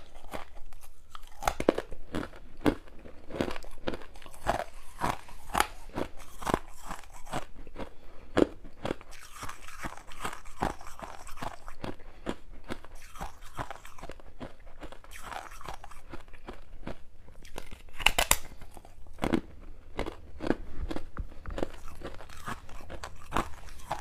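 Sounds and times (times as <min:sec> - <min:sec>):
frost crunching being chewed: 0:00.0 - 0:24.0.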